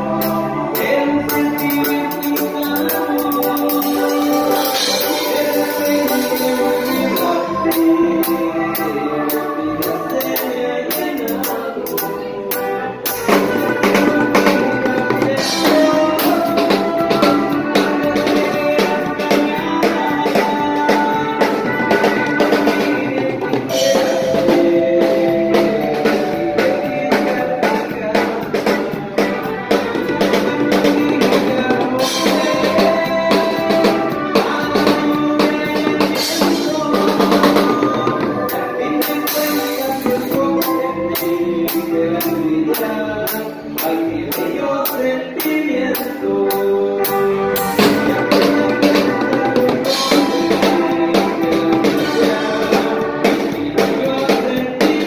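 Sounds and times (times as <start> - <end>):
live band playing: 0.0 - 55.0
steady drum beat: 0.0 - 55.0.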